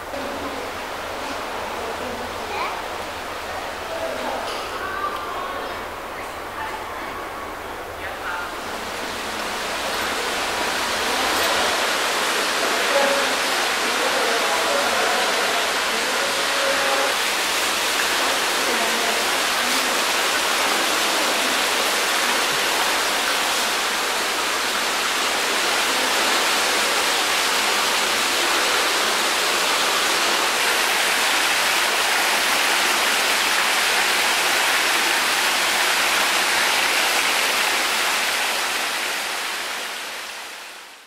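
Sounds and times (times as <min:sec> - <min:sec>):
running water rushing: 0:00.0 - 0:41.0.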